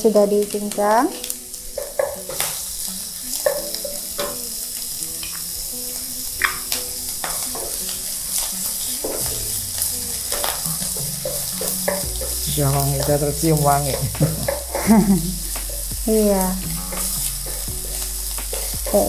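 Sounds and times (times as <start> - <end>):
shrimp sizzling in hot oil: 0.0 - 19.0.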